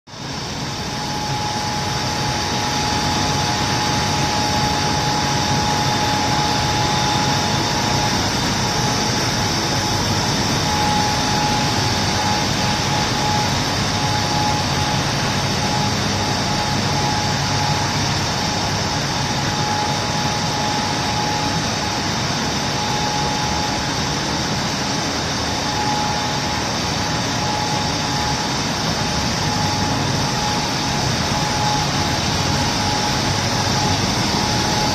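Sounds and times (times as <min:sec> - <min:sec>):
steady machine whine: 0:00.1 - 0:34.9
machinery and motor noise: 0:00.3 - 0:34.9.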